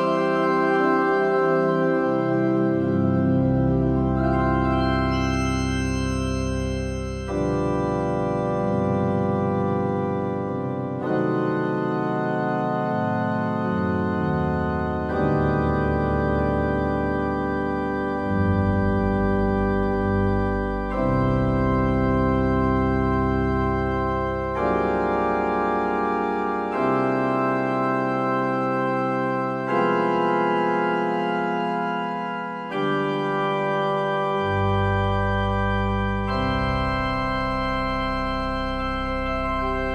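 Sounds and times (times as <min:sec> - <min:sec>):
electronic organ chords: 0:00.0 - 0:39.9.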